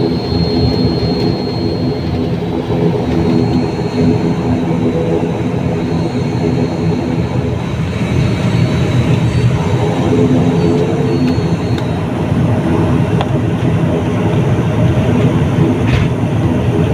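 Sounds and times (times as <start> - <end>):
high engine whine: 0.0 - 16.9
turboprop engine hum: 0.0 - 16.9.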